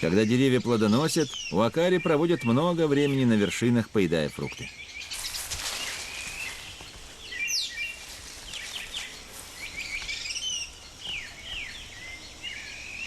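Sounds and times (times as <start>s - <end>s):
birds chirping and calling: 0.0s - 13.0s
steady background hiss: 0.0s - 13.0s.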